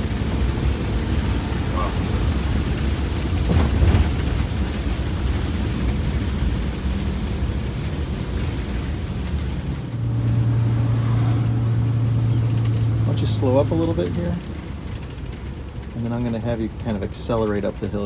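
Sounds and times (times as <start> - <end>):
diesel bus engine running: 0.0 - 18.0
road rumble: 0.0 - 18.0.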